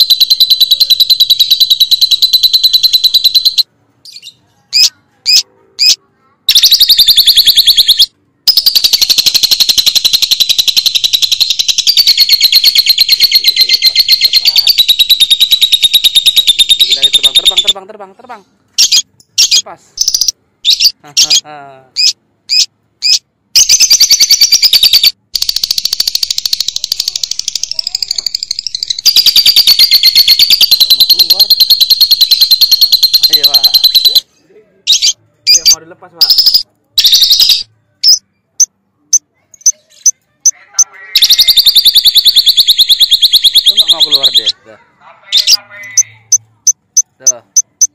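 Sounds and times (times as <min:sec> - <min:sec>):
lovebird chattering trill: 0:00.0 - 0:17.8, 0:18.8 - 0:34.2, 0:34.9 - 0:38.2, 0:41.2 - 0:44.6, 0:45.3 - 0:46.1.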